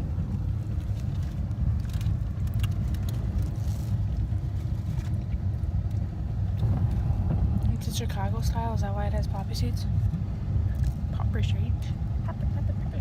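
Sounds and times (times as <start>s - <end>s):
car cabin engine and road noise: 0.0s - 13.0s.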